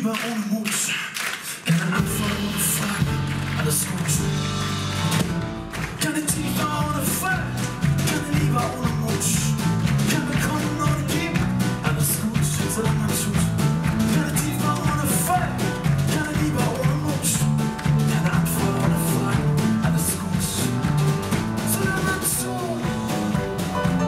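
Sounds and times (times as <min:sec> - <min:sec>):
person singing: 0:00.0 - 0:04.8, 0:05.9 - 0:24.0
drum kit: 0:01.7 - 0:24.0
electric bass: 0:02.0 - 0:24.0
grand piano: 0:02.0 - 0:24.0.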